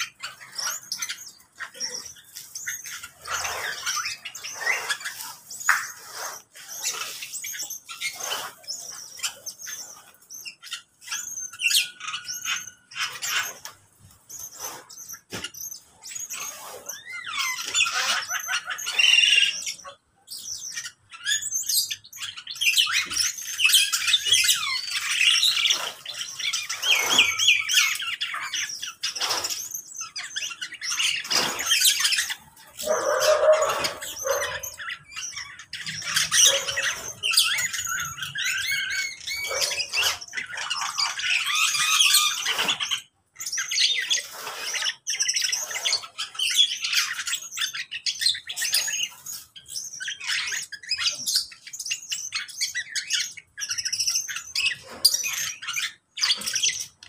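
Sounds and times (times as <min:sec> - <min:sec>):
bird squawks: 0:00.0 - 0:57.0
small birds chirping and twittering: 0:00.0 - 0:57.0.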